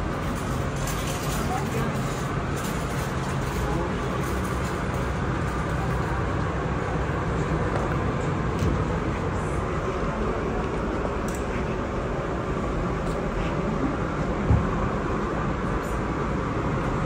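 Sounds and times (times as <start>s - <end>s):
constant rumble: 0.0s - 17.0s
faint indistinct voices: 0.4s - 15.0s.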